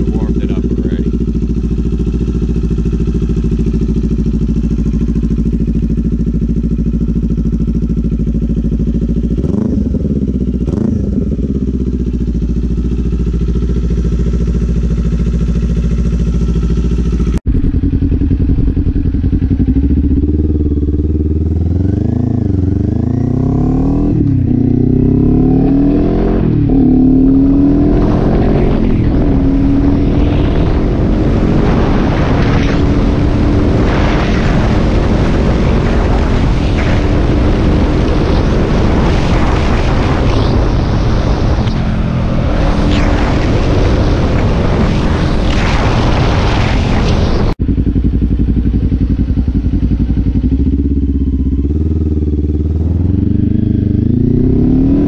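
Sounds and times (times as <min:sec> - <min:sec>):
motorcycle accelerating through gears: 0:00.0 - 0:55.0
motorcycle engine idling and revving: 0:00.0 - 0:55.0.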